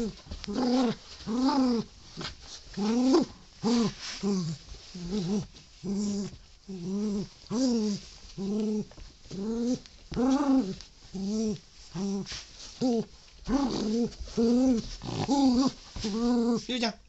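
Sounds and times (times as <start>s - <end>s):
dog play growling: 0.0s - 16.6s.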